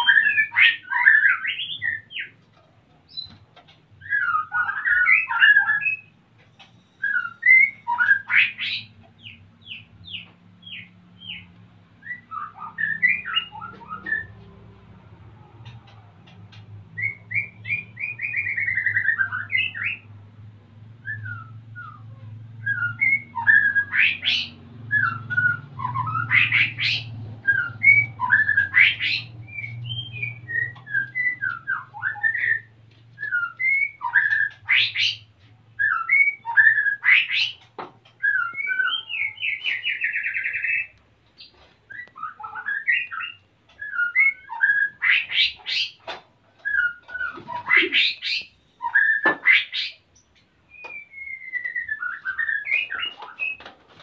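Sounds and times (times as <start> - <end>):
bird singing whistled phrases: 0.0 - 2.3, 4.0 - 6.2, 6.8 - 11.4, 12.0 - 14.4, 17.0 - 20.0, 21.0 - 35.2, 35.8 - 37.6, 38.2 - 41.0, 41.9 - 46.0, 46.6 - 50.0, 50.7 - 53.6.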